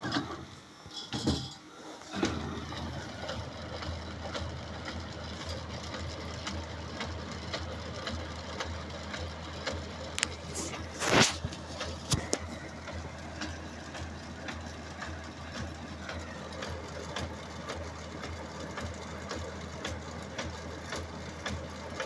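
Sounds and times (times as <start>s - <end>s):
laser printer running: 1.7s - 22.0s.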